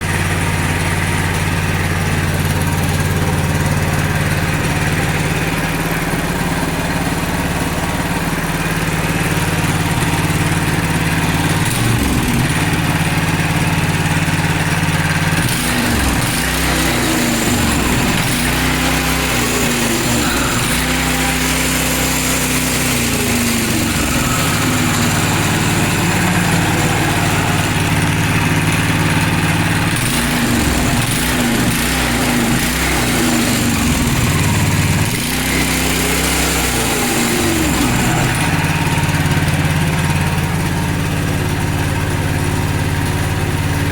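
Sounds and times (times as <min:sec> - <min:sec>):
engine idling and revving: 0:00.0 - 0:43.9.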